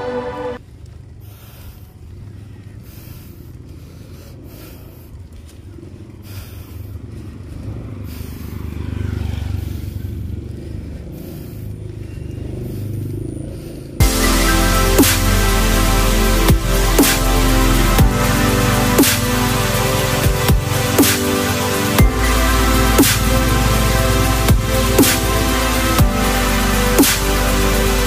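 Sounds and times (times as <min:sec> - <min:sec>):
bicycle road and wind noise: 0:00.0 - 0:28.0.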